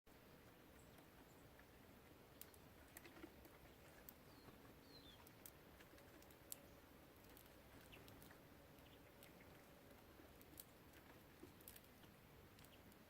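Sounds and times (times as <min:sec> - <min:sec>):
birds pecking at seed: 0:00.1 - 0:13.0.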